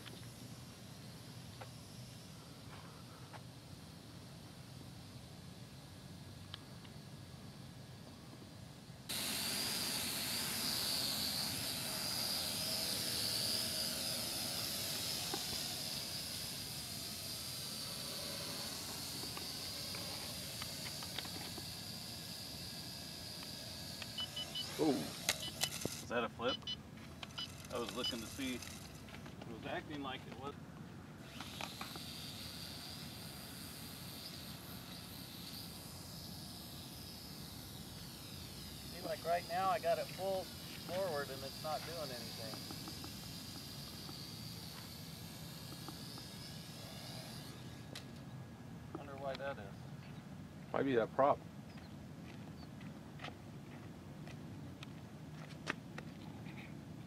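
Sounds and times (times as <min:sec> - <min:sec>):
quadcopter motors whining: 0:00.0 - 0:52.9.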